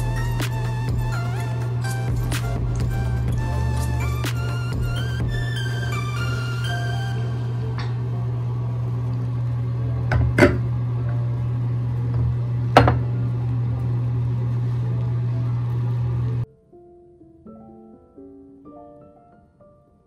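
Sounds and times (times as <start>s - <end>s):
low electric hum: 0.0s - 16.5s.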